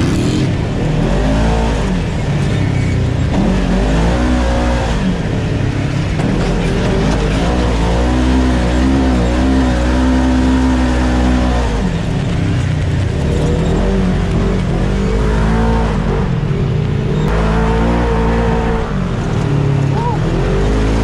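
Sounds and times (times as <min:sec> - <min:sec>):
off-road vehicle engine under load: 0:00.0 - 0:21.0.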